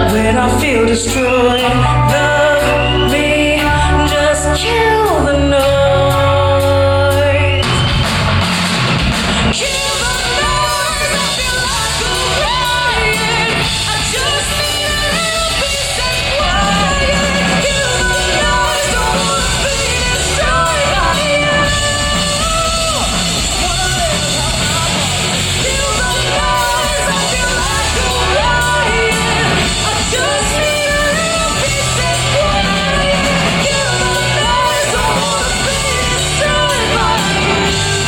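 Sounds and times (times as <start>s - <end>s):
person singing: 0.0s - 8.0s, 9.5s - 38.0s
rock band playing: 0.0s - 38.0s.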